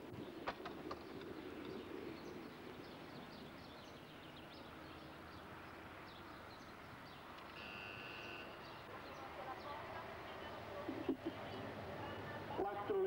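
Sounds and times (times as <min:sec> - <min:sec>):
open-air background noise: 0:00.0 - 0:13.0
small birds chirping: 0:00.1 - 0:12.6.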